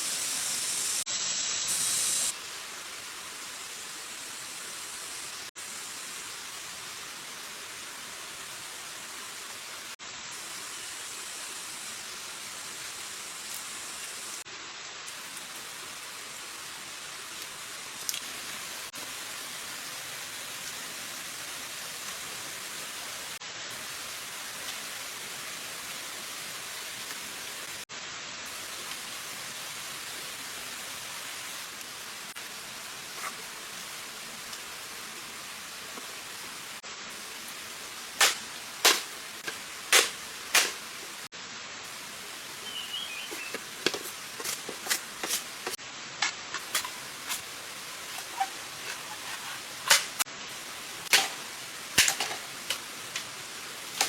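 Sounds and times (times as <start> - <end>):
water hissing: 0.0 - 7.1, 15.1 - 54.0.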